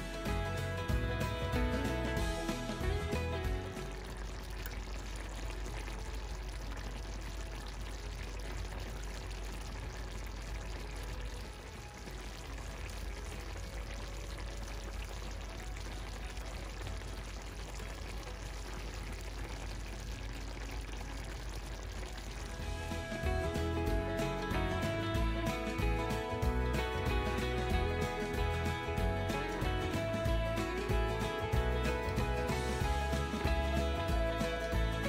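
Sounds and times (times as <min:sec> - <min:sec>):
sauce bubbling in a pan: 0:00.0 - 0:35.0.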